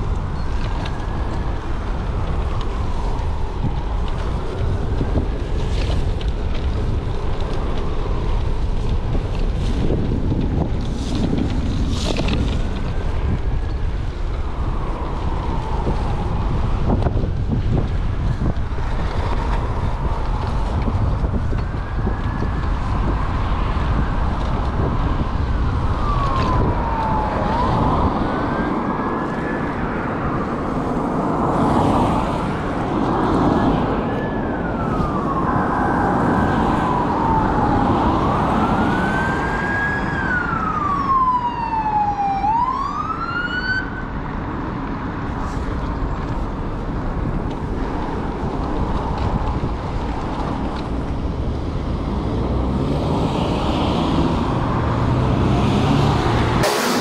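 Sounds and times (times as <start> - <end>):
emergency siren wailing: 0.0 - 10.7, 12.0 - 44.5, 47.6 - 57.0
wind rumble on microphone: 0.0 - 57.0.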